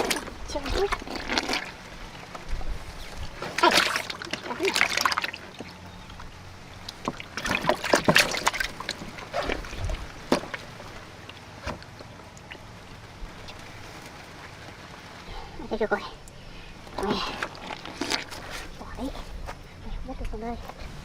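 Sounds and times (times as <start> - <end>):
water splashing and sloshing: 0.0 - 19.8.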